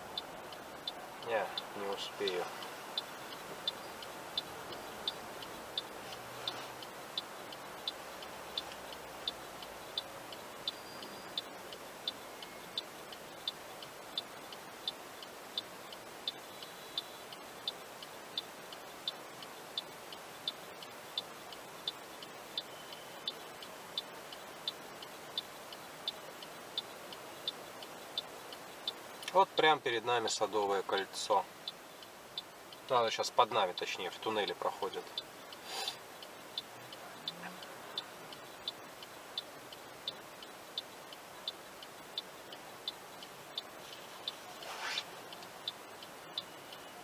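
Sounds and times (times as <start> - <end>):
faint traffic hum: 0.0 - 47.0
steady ticking: 0.0 - 47.0.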